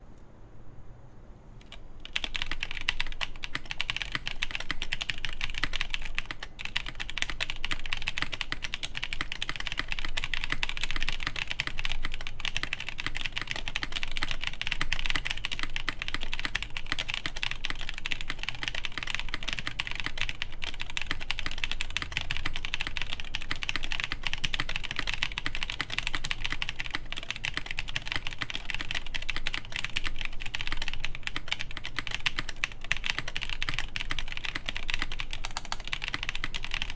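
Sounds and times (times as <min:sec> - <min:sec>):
mechanical keyboard typing: 0:01.6 - 0:36.9.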